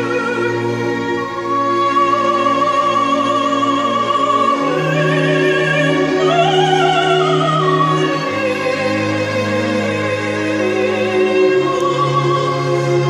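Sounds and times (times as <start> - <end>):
operatic soprano singing: 0.0 - 13.0
orchestral strings: 0.0 - 13.0.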